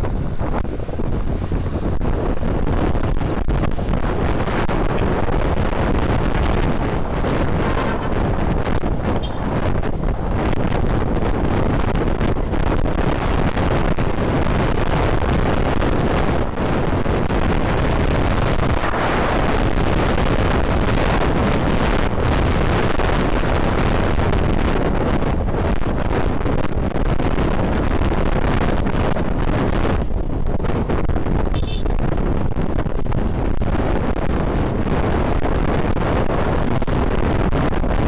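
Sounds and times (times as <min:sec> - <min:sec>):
scooter engine and road noise: 0:00.0 - 0:38.0
wind rushing over microphone: 0:00.0 - 0:38.0.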